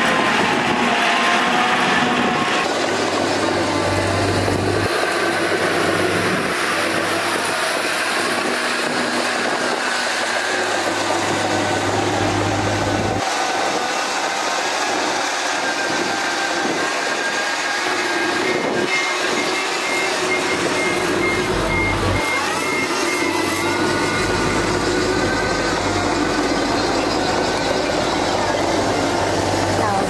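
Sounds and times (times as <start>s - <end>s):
truck engine running: 0.0s - 30.0s.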